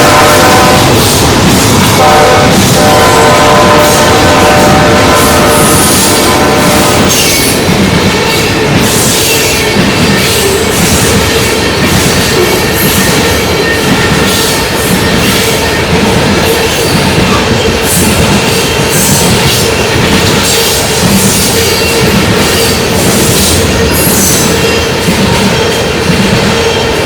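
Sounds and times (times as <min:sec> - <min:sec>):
freight train wheels on rail: 0:00.0 - 0:27.0.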